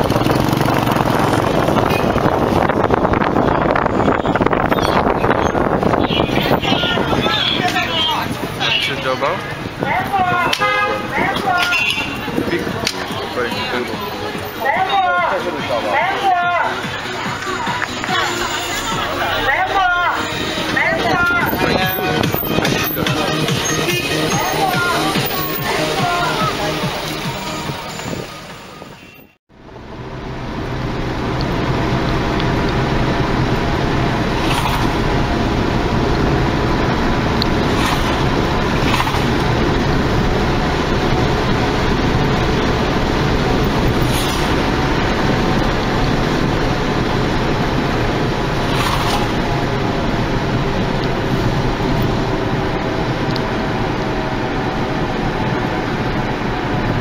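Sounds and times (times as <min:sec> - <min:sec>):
car cabin road and engine noise: 0:00.0 - 0:28.8, 0:29.4 - 0:57.0
passing vehicles swishing: 0:00.0 - 0:57.0.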